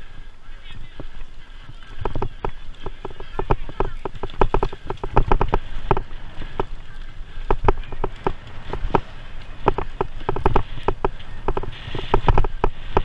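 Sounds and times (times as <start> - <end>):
bicycle rattling on gravel trail: 0.0 - 13.0
tyres rumbling and wind: 0.0 - 13.0.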